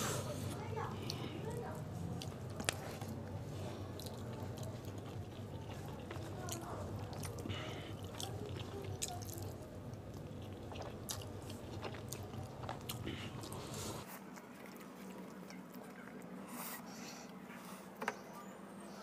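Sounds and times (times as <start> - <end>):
low background hum: 0.0 - 19.0
chewing with wet mouth clicks: 1.0 - 16.4.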